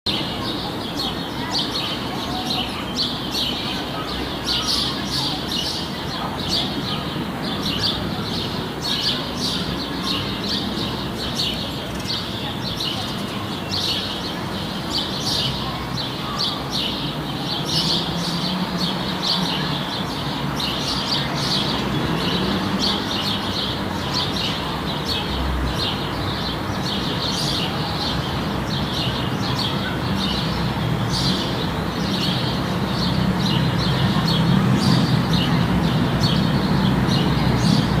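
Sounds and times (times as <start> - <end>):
small birds chirping: 0.1 - 38.0.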